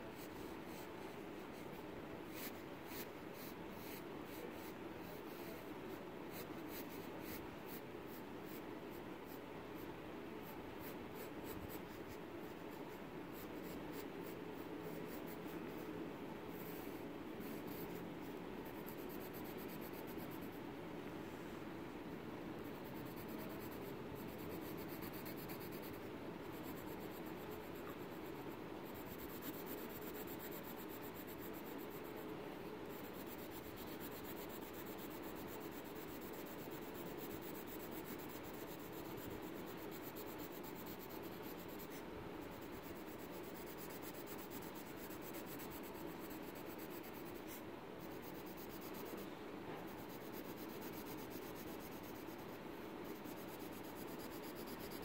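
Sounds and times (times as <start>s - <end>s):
pencil scratching on paper: 0.2s - 8.7s, 9.3s - 15.9s, 22.6s - 32.2s, 32.9s - 49.2s, 49.9s - 55.0s.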